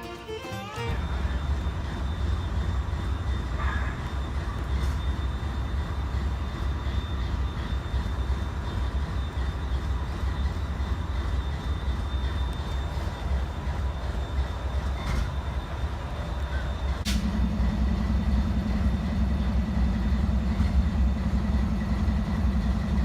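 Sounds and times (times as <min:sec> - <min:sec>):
diesel locomotive idling: 0:00.0 - 0:23.0.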